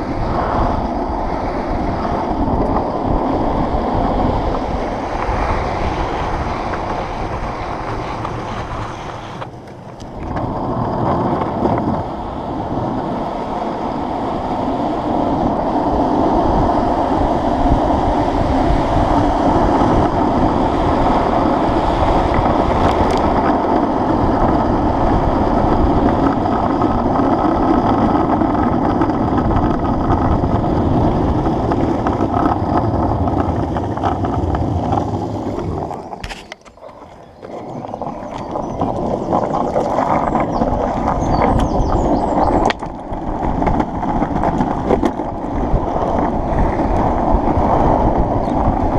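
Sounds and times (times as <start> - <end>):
longboard wheels rumbling on asphalt: 0.0 - 48.9
wind on microphone: 0.0 - 48.9.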